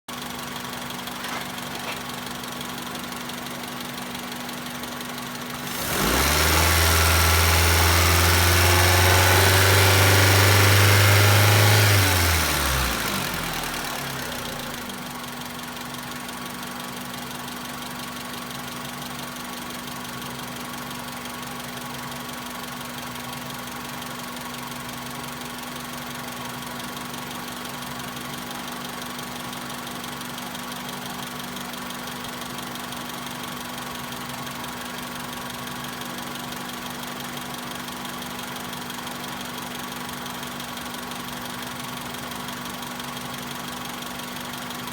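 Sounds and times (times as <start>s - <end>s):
car engine idling and revving: 0.1s - 44.9s.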